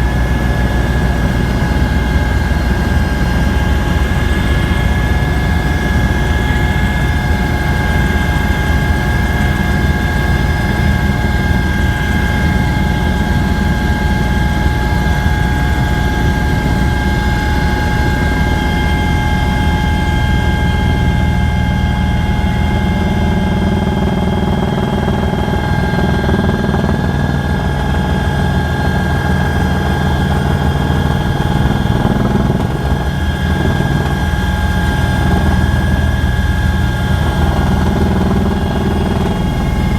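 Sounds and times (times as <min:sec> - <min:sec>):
constant high whine: 0:00.0 - 0:39.9
helicopter engine and rotor drone: 0:00.0 - 0:39.9.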